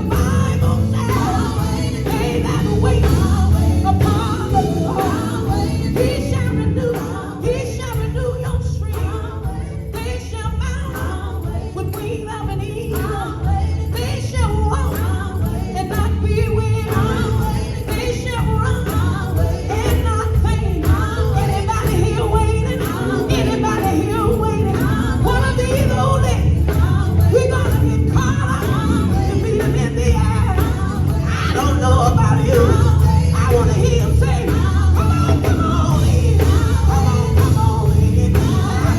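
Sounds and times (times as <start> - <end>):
band with drums and bass: 0.0 - 38.9
vocal group singing: 0.0 - 38.9.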